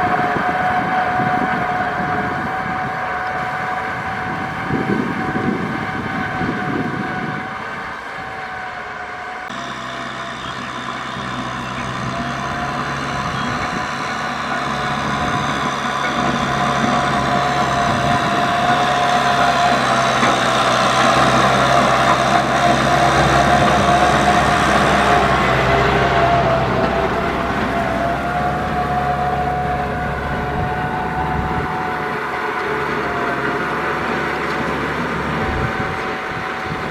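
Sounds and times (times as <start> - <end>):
steady whine: 0.0 - 36.9
tractor diesel engine under load: 0.0 - 36.9.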